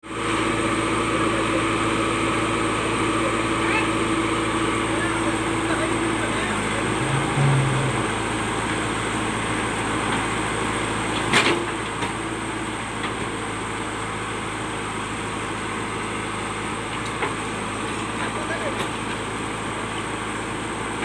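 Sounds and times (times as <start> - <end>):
backhoe loader engine running: 0.1 - 21.0.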